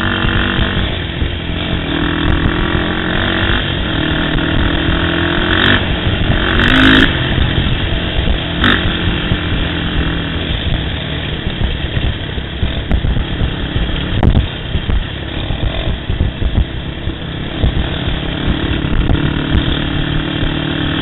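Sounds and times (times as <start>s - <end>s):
quad engine accelerating: 0.0s - 21.0s.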